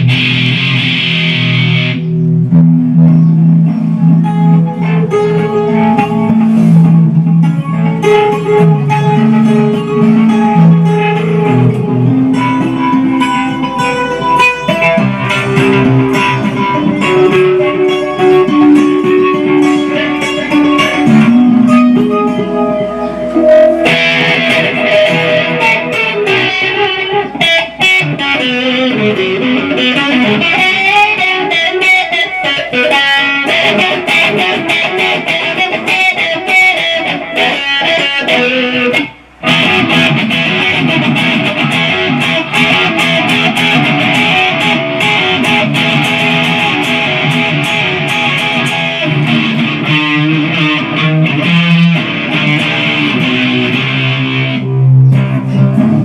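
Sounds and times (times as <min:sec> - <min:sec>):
electric guitar through amp: 0:00.0 - 0:56.0.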